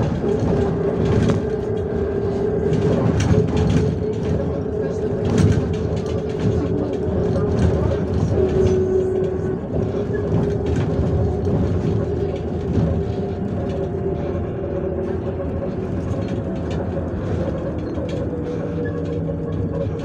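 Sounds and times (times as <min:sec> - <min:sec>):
bus engine running: 0:00.0 - 0:20.0
road rumble: 0:00.0 - 0:20.0.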